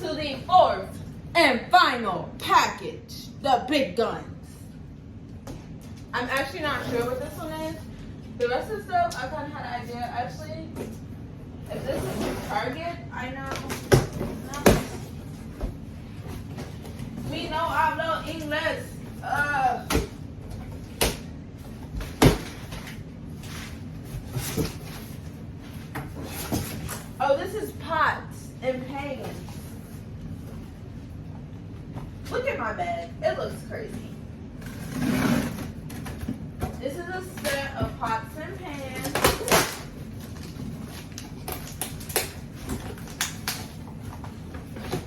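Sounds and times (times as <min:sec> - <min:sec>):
low room noise: 0:00.0 - 0:45.0.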